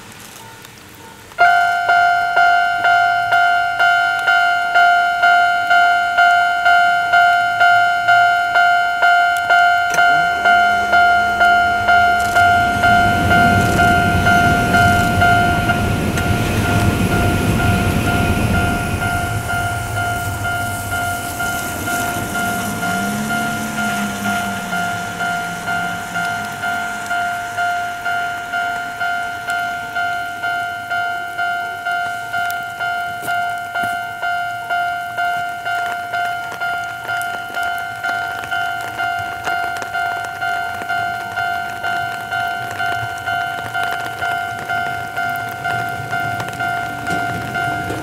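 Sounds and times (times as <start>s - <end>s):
train rumble and hum: 0.0s - 48.0s
level crossing two-tone bell: 1.4s - 48.0s.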